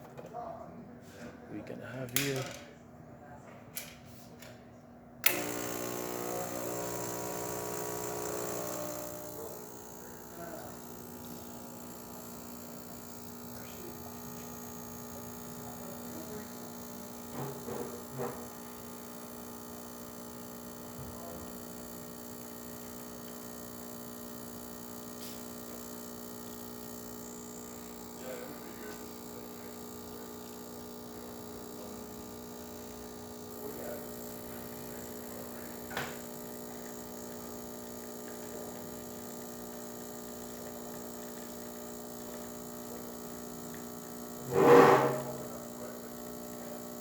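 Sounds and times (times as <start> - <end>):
espresso machine pump buzzing: 5.2 - 47.0.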